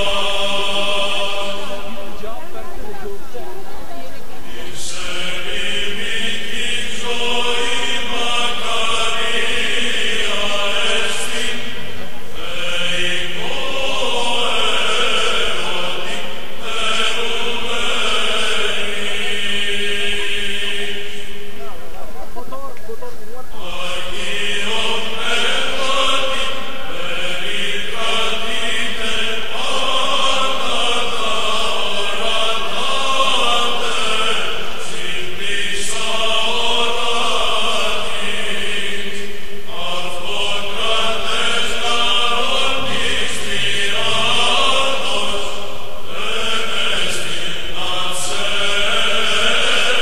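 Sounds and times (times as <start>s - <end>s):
music: 0.0s - 22.9s, 23.5s - 50.0s
chanted singing: 0.0s - 50.0s.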